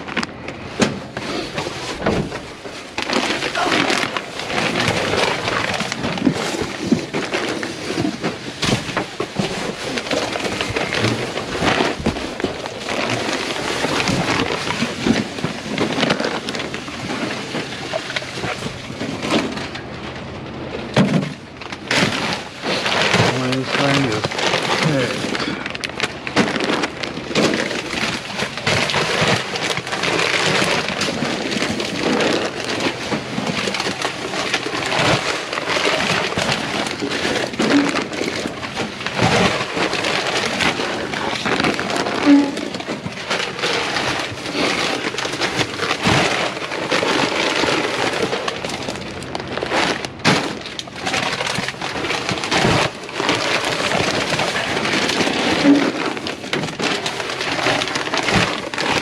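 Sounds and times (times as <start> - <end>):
plastic bags crinkling and rustling: 0.0 - 59.0.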